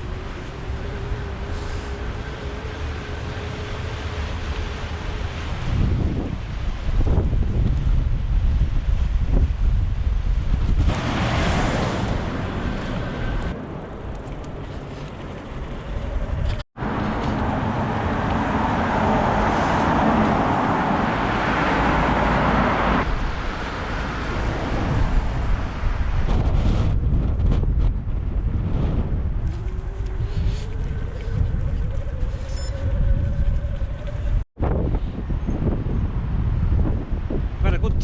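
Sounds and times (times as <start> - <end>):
wind buffeting microphone: 0.0 - 16.6, 18.8 - 38.0.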